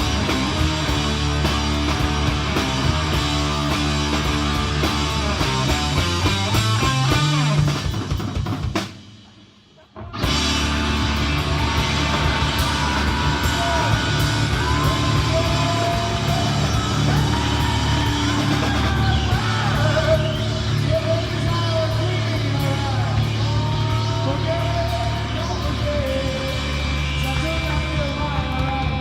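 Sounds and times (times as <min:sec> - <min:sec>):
loud rock music: 0:00.0 - 0:29.0.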